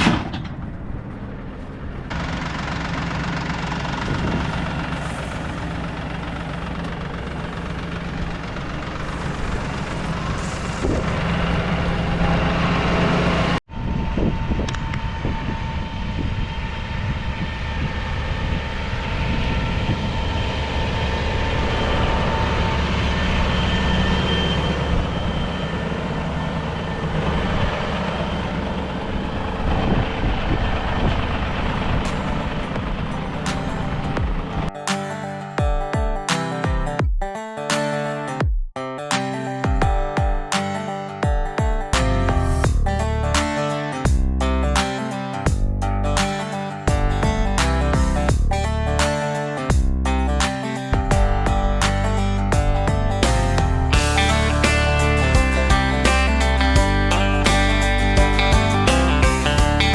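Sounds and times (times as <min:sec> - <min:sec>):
tractor engine running: 0:00.0 - 0:35.3, 0:41.6 - 0:59.9.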